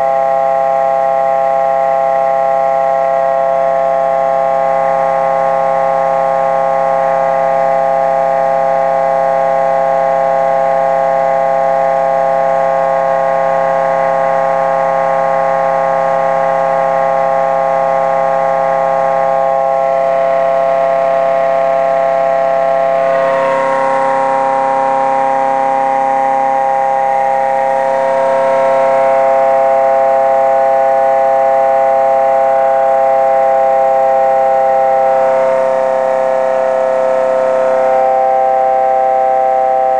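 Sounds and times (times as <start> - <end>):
motor generator whine: 0.0 - 39.9.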